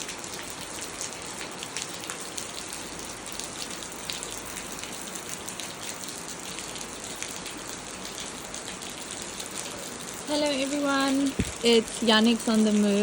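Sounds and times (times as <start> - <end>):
raindrops pattering: 0.0 - 13.0
steady rain falling: 0.0 - 13.0.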